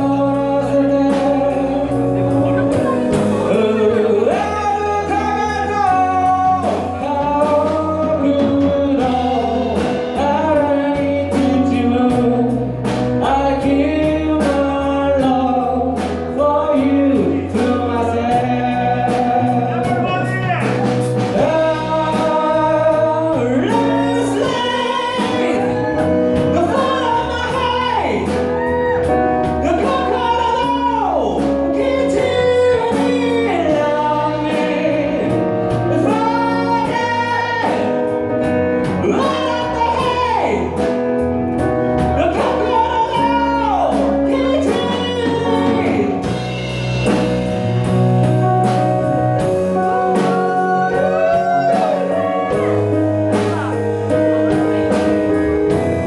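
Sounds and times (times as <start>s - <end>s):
person singing with vibrato: 0.0s - 41.0s, 41.9s - 48.0s, 49.0s - 56.0s
rock band accompaniment: 0.0s - 56.0s.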